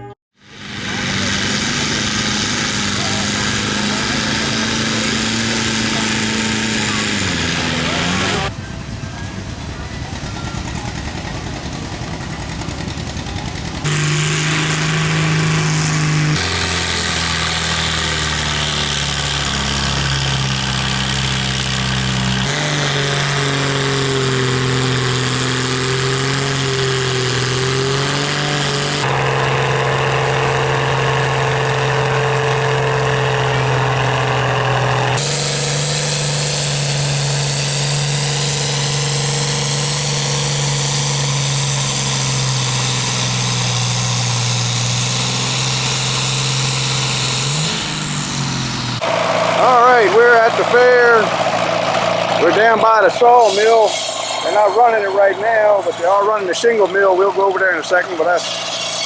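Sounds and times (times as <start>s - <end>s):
tractor engines idling: 0.0s - 59.0s.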